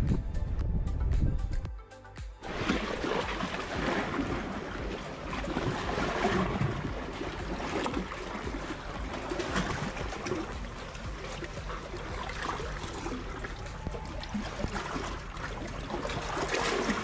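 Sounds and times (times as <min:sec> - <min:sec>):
water lapping against concrete: 0:02.5 - 0:17.0.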